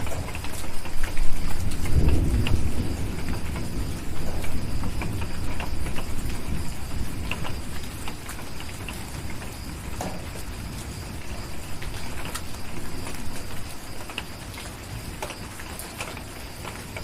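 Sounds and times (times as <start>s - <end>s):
steady rain: 0.0s - 17.0s
thunder rolling: 0.0s - 17.0s
wood fire crackling: 0.0s - 17.0s.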